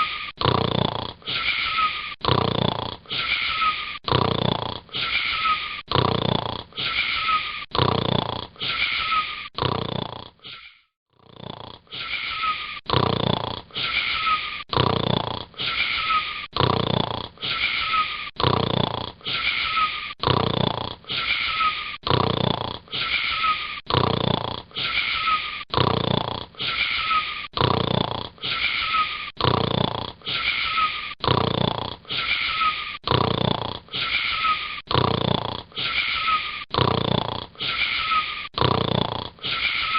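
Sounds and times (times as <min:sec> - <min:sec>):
wheezy snoring: 0:00.0 - 0:39.9.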